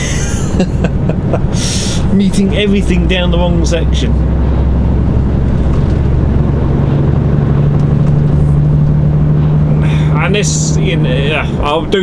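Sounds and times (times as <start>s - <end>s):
diesel lorry engine running: 0.0s - 12.0s
road noise: 0.0s - 12.0s.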